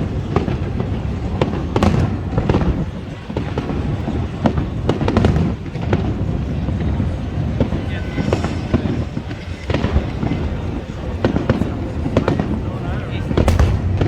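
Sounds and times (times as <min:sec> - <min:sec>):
deep fireworks booms: 0:00.0 - 0:14.0
fireworks bangs and crackles: 0:00.0 - 0:14.0.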